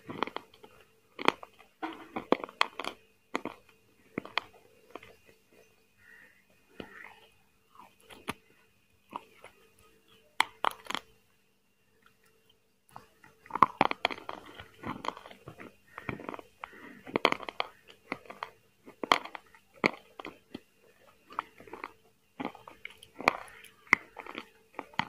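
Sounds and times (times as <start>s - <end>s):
crunchy chewing of food: 0.0s - 25.0s.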